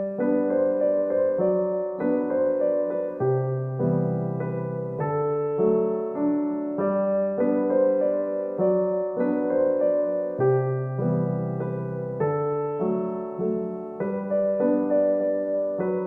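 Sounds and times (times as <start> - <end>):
soft slow piano music: 0.0 - 16.0.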